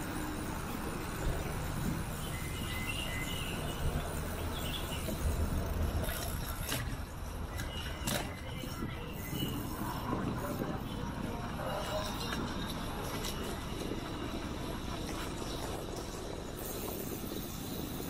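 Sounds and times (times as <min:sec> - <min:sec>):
wind and tyre rumble: 0:00.0 - 0:18.0.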